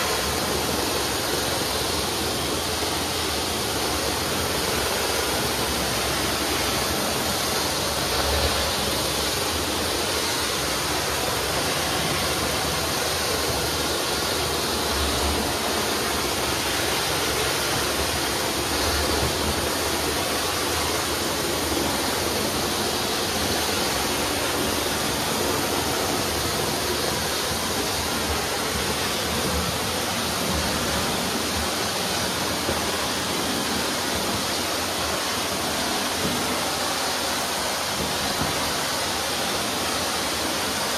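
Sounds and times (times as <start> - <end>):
hiss of spraying water: 0.0 - 40.9.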